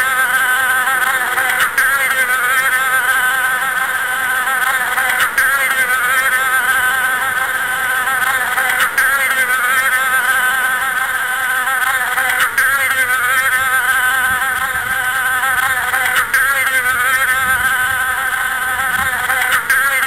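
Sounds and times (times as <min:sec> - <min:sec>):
flying insect buzzing: 0:00.0 - 0:20.0.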